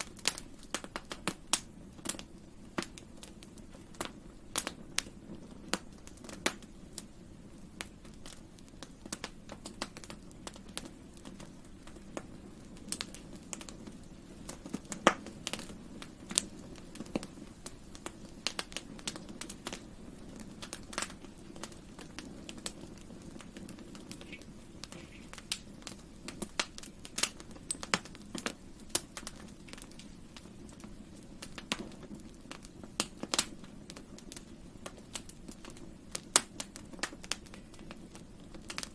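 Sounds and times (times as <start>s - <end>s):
campfire crackling: 0.0s - 38.9s
low rumble of burning: 0.0s - 38.9s.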